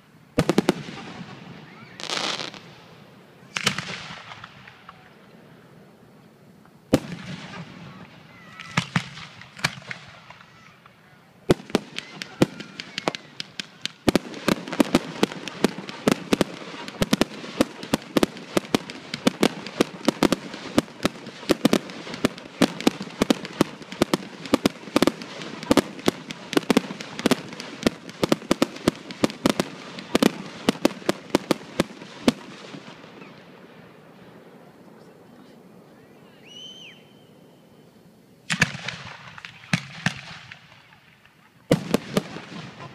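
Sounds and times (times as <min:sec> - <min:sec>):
fireworks crackle: 0:00.0 - 0:37.1, 0:38.4 - 0:42.9
fireworks bangs: 0:00.0 - 0:37.6, 0:38.4 - 0:42.9.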